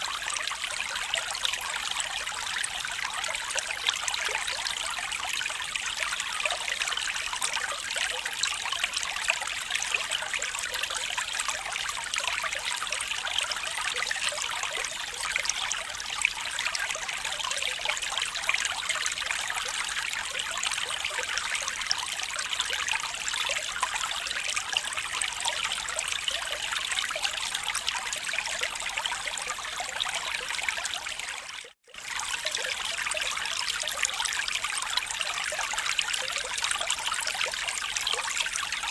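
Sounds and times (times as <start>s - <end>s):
stream trickling over stones: 0.0s - 38.9s.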